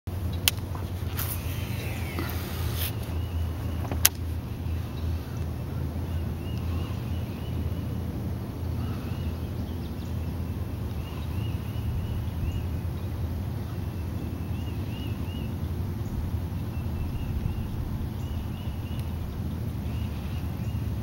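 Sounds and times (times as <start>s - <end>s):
steady low rumble: 0.1s - 21.0s
bird chirping: 0.2s - 8.0s, 8.8s - 21.0s.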